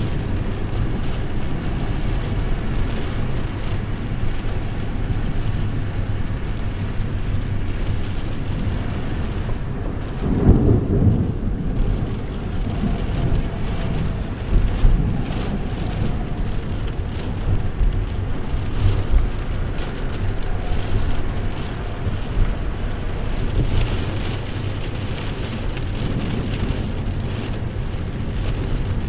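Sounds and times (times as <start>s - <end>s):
steady rain: 0.0s - 29.0s
thunder rumbling: 0.0s - 29.0s.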